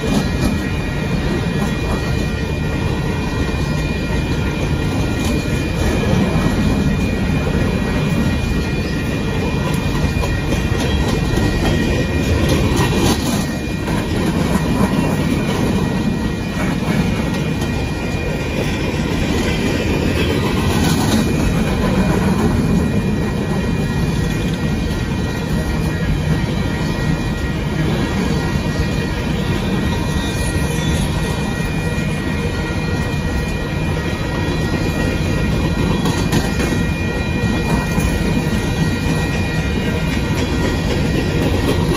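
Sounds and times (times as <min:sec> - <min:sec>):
train cars rumbling and clattering: 0:00.0 - 0:41.9.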